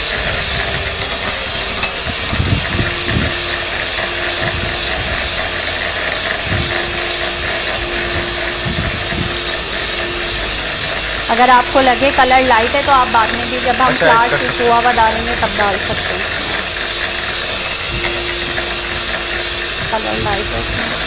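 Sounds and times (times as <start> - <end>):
beaters whisking in glass bowl: 0.0 - 21.0
electric hand mixer whining: 0.0 - 21.0.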